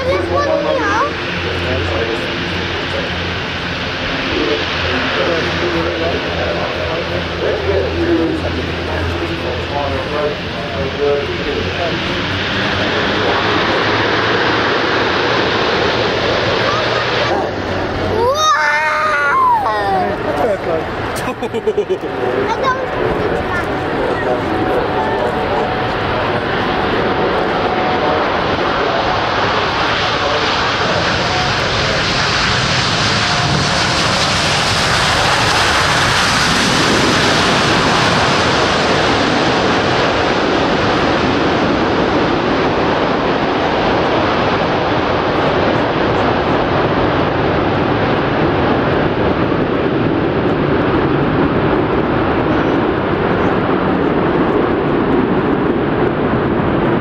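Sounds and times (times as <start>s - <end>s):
jet airliner landing: 0.0s - 57.0s.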